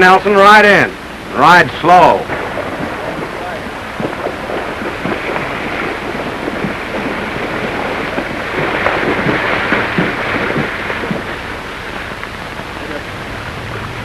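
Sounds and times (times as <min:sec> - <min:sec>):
film soundtrack hiss: 0:00.0 - 0:14.0
horse hooves walking: 0:02.3 - 0:14.0.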